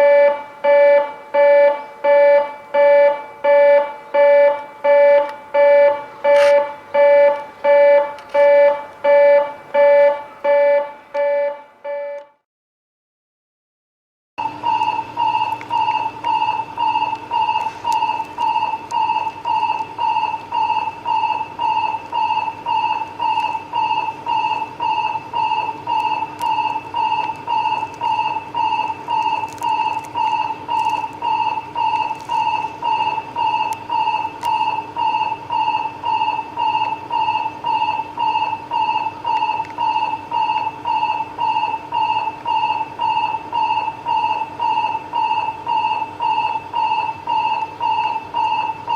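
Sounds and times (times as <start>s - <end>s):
electronic warning beeps: 0.0s - 12.4s, 14.4s - 48.9s.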